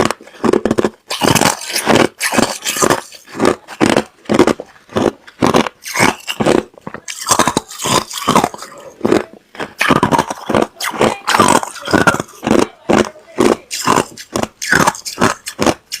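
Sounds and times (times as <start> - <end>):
chewing crushed ice: 0.0 - 16.0.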